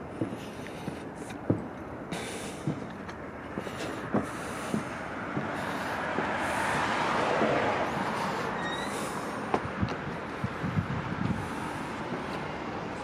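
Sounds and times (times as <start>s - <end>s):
footsteps on steel deck: 0.0s - 13.0s
steady rushing noise: 0.0s - 13.0s.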